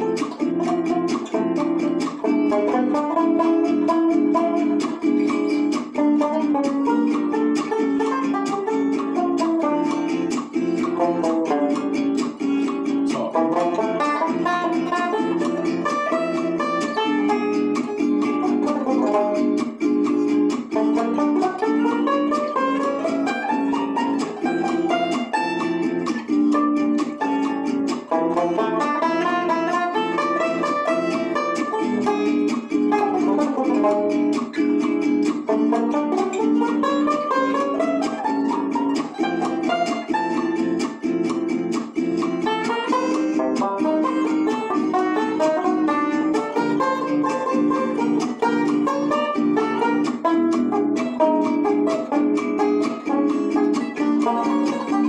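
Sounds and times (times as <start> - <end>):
tenor banjo picked quick runs: 0.0 - 55.0.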